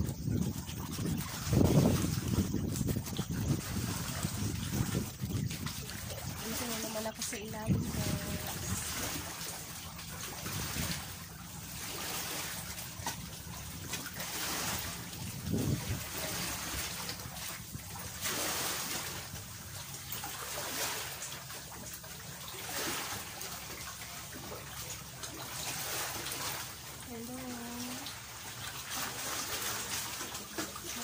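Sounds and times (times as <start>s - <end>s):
water lapping against rock: 0.0s - 31.0s.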